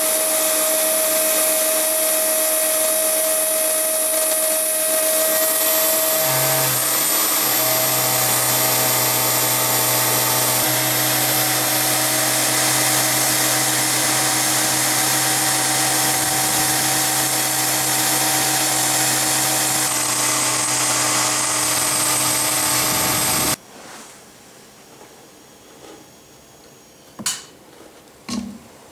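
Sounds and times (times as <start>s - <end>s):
router spindle whine cutting metal: 0.0s - 23.6s.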